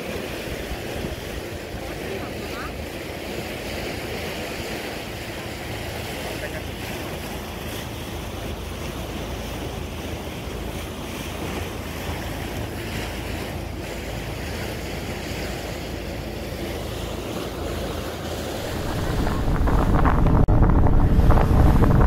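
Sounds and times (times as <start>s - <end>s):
wind buffeting microphone: 0.0s - 6.0s, 7.4s - 22.0s
sea water rushing along hull: 0.0s - 22.0s.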